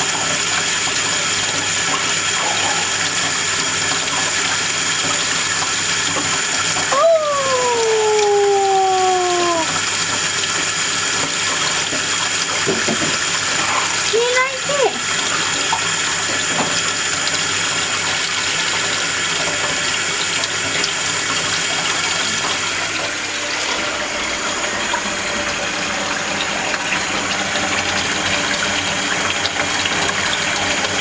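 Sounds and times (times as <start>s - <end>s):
tap water splashing into sink: 0.0s - 7.0s, 7.6s - 31.0s.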